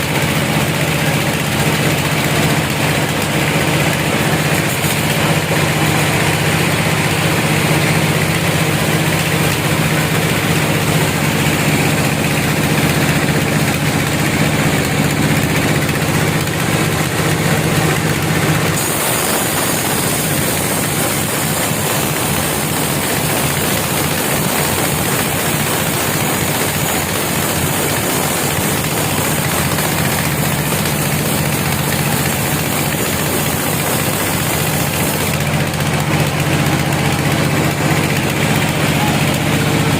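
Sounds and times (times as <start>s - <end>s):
sawmill machinery engine running: 0.0s - 39.9s.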